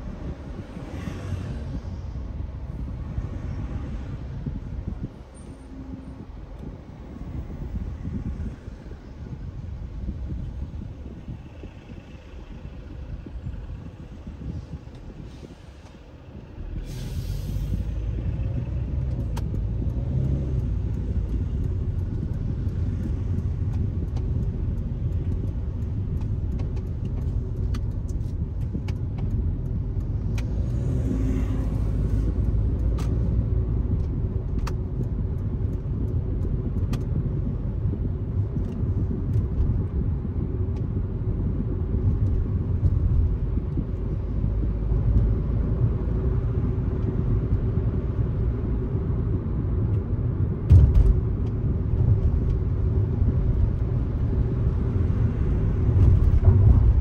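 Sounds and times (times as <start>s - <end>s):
car engine hum: 0.0s - 57.0s
car tyre and road noise: 0.0s - 57.0s.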